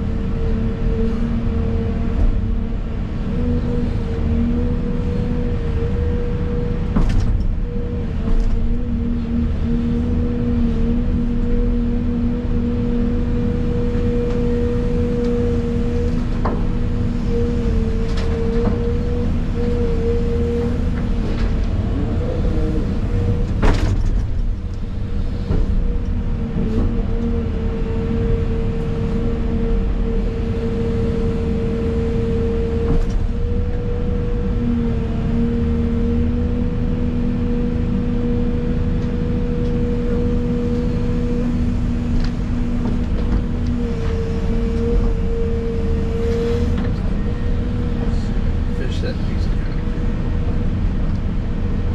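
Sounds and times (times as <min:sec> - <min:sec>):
engine whine: 0:00.0 - 0:51.9
excavator engine rumble: 0:00.0 - 0:51.9.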